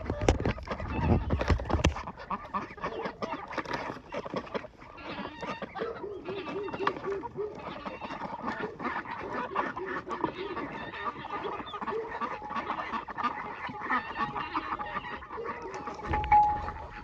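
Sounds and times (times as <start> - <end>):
poultry honking quacking clucking: 0.0 - 17.0.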